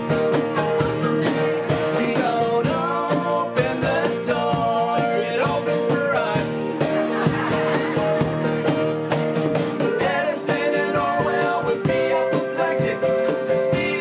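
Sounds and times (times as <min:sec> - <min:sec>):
person singing: 0:00.0 - 0:07.0, 0:09.8 - 0:14.0
acoustic guitars: 0:00.0 - 0:14.0
cajon beat: 0:00.0 - 0:14.0.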